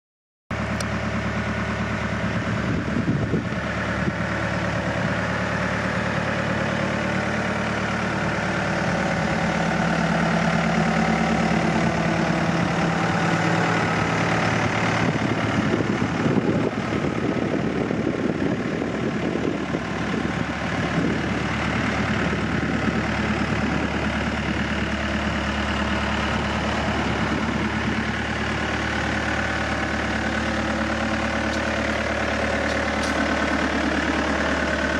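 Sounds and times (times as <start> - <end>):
excavator diesel engine idling: 0.5 - 34.9.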